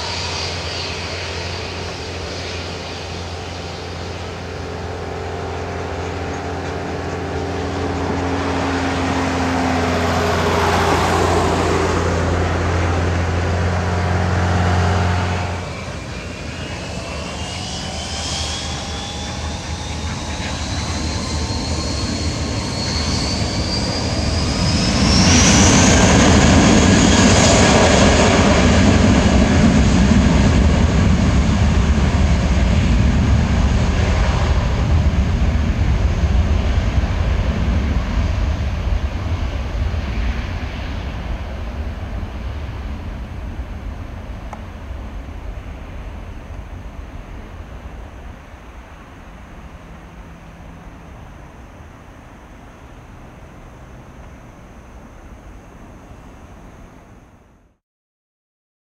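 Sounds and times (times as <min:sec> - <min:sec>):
loud jet roar: 0:00.0 - 0:57.0
jet engines spooling up: 0:00.0 - 0:57.5.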